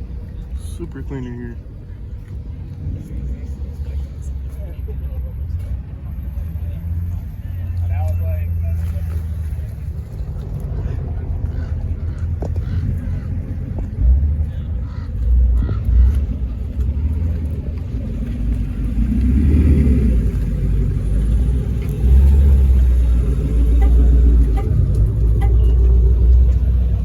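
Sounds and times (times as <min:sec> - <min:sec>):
car engines rumbling: 0:00.0 - 0:27.0.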